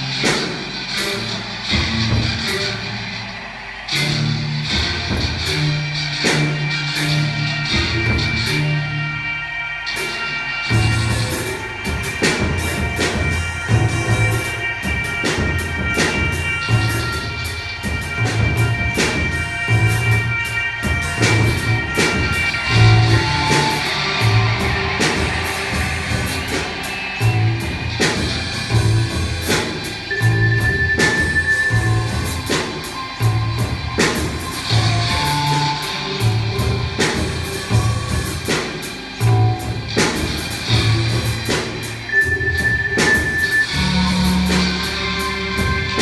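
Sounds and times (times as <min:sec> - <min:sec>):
instrumental rock music: 0:00.0 - 0:46.0.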